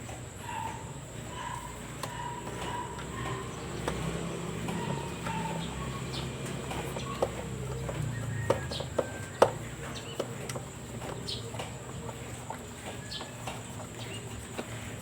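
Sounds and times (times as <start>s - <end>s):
hand tools clicking on metal parts: 0.0s - 15.0s.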